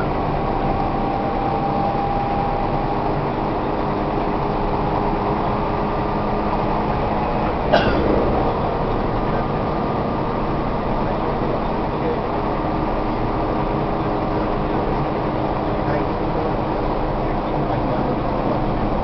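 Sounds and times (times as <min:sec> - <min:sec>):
electric train running rumble: 0:00.0 - 0:19.0.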